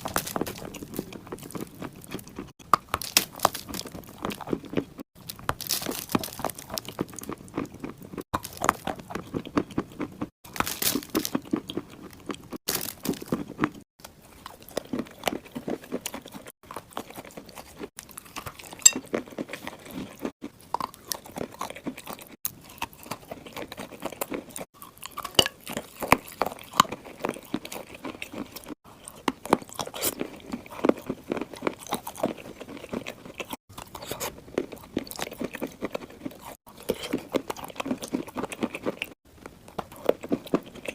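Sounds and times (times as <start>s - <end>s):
clay being chewed with crunches: 0.0s - 40.9s.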